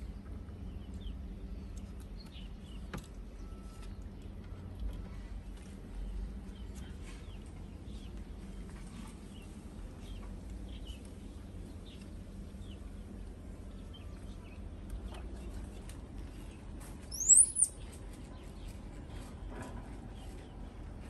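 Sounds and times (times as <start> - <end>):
small birds chirping: 0.0 - 4.6, 5.9 - 18.9.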